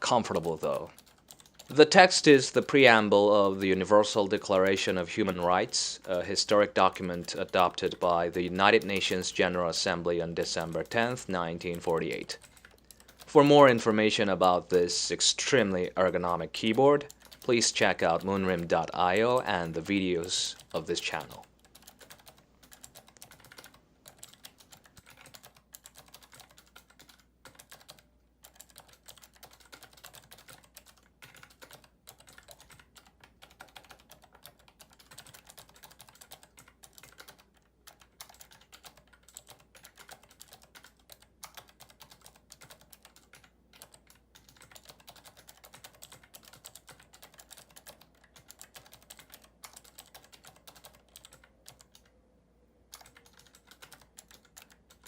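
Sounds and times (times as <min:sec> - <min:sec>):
fast clicky keyboard typing: 0:00.0 - 0:52.1, 0:52.9 - 0:55.0.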